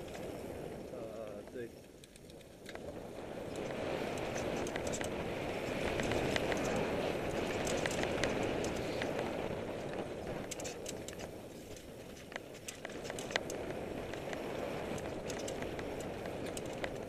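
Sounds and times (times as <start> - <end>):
bike rattling over bumps: 0.0 - 17.0
bike tyres rushing over dirt: 0.0 - 17.0.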